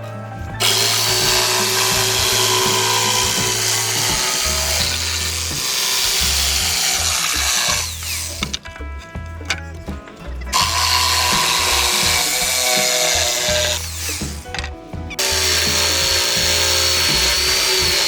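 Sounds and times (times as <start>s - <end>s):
power tool cutting wood: 0.6s - 8.6s, 10.5s - 18.0s.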